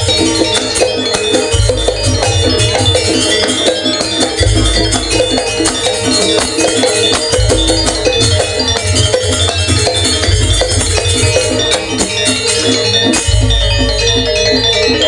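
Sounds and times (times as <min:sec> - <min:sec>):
drums: 0:00.0 - 0:15.0
struck pitched percussion: 0:00.0 - 0:15.0.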